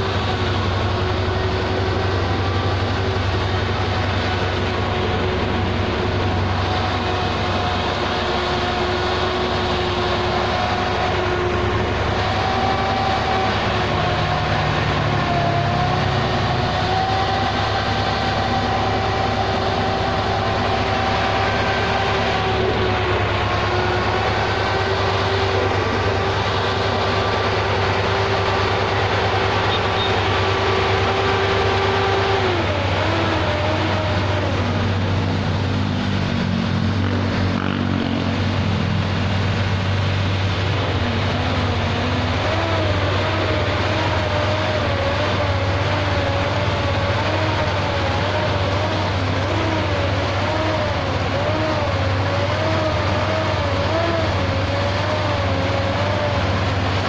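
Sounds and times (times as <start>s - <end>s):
turbine fan drone with high whine: 0.0s - 57.0s.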